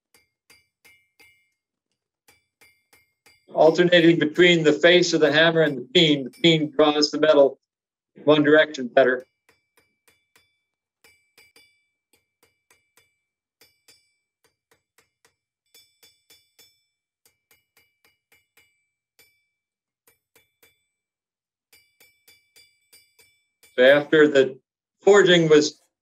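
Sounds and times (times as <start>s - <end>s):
hammer ringing on anvil: 0.1s - 1.6s, 2.3s - 7.4s, 9.2s - 20.9s, 21.7s - 24.4s.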